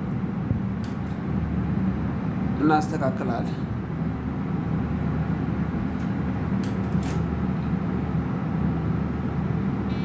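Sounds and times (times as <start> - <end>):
computer cooling fans whirring: 0.0 - 10.0.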